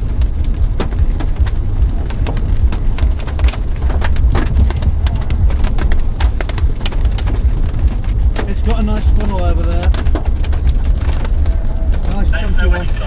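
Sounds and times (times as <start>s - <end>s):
hail knocking on a car: 0.0s - 13.0s
rain on a car: 0.0s - 13.0s.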